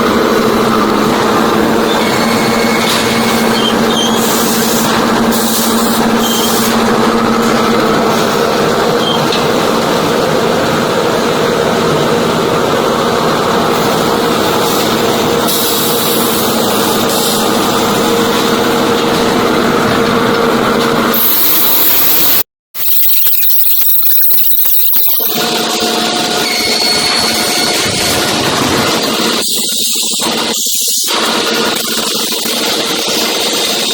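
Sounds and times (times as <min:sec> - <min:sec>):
sawmill machinery droning: 0:00.0 - 0:21.3, 0:24.4 - 0:33.9
noisier machine sound: 0:00.0 - 0:33.9.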